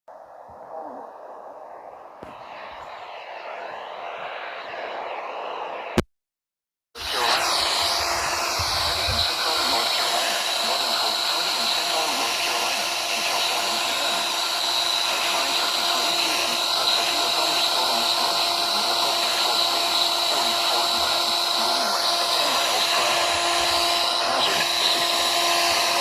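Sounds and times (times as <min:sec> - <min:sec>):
faint steady tones: 0:00.1 - 0:06.0, 0:07.0 - 0:26.0
radio static hiss: 0:00.1 - 0:06.1, 0:07.0 - 0:26.0.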